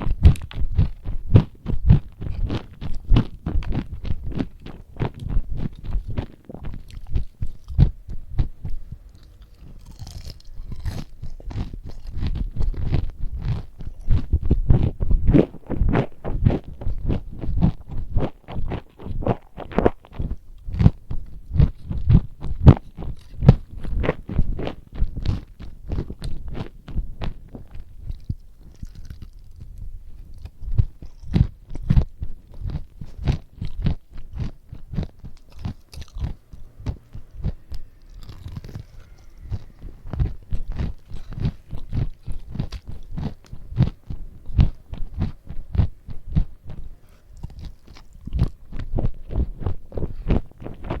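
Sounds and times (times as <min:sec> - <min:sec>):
chewing and crunching food: 0:00.0 - 0:51.0.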